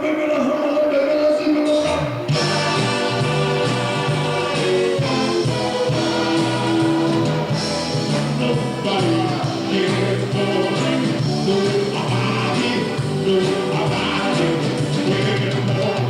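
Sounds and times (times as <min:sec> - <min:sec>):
band playing live music: 0:00.5 - 0:16.0
steady bass line: 0:01.9 - 0:16.0.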